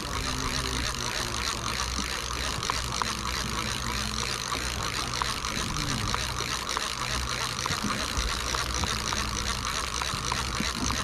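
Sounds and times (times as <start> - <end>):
boat engine drone: 0.0 - 11.0
wind and water hiss: 0.0 - 11.0.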